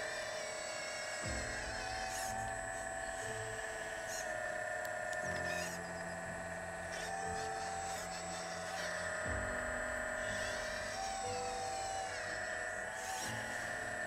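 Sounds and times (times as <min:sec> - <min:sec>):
hydraulic pump motor whine: 0:00.0 - 0:14.0.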